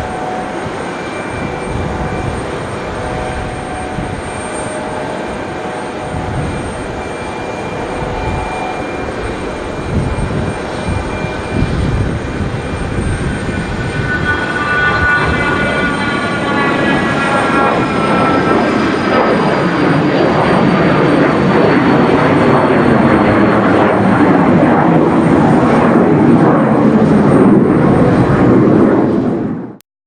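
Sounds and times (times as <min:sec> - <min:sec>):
jet engine whine: 0:00.0 - 0:29.8
jet roar: 0:00.0 - 0:29.8.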